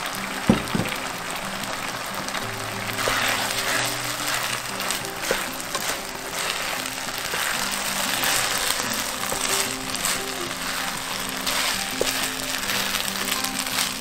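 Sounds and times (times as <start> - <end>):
background music with low notes: 0.0 - 14.0
rice sizzling in a wok: 0.0 - 14.0
wooden spatula stirring: 0.6 - 14.0.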